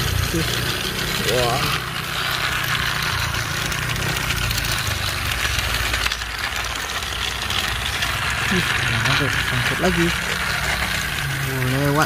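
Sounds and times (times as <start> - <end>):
toy train motors whirring: 0.0 - 12.0.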